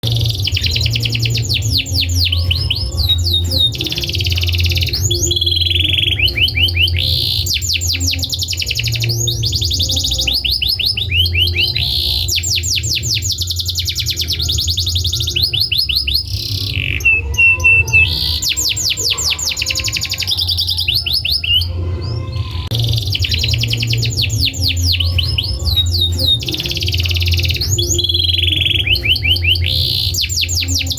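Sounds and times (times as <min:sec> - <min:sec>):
canary singing fast trills: 0:00.0 - 0:30.9
steady low hum: 0:00.0 - 0:30.9.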